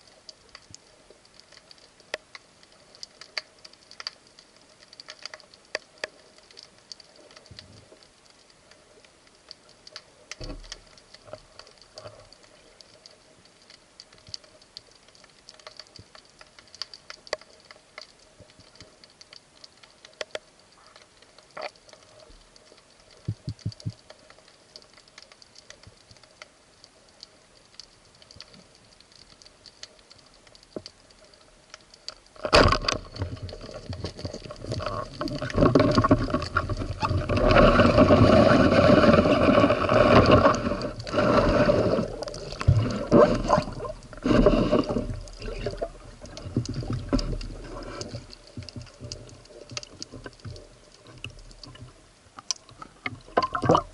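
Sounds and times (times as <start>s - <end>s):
faint steady hum: 0.0s - 53.9s
underwater clicks and crackles: 0.0s - 53.9s.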